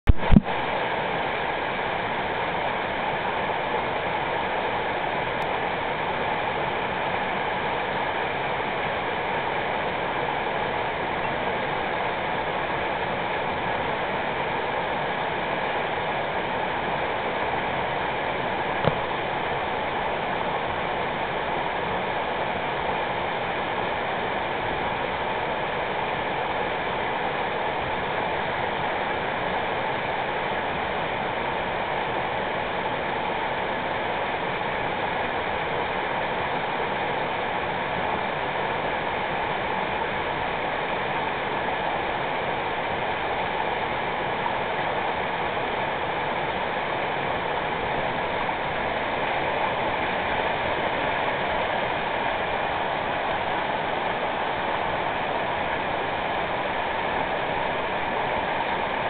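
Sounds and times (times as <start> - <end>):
river water rushing: 0.1 - 59.0.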